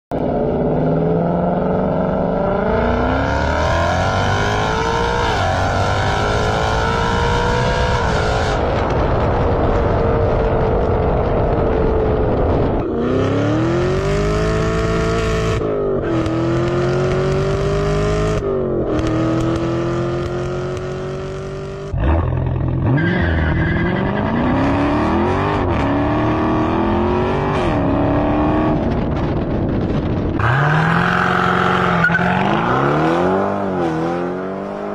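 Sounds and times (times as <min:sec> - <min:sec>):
car engines accelerating hard: 0:00.2 - 0:34.9.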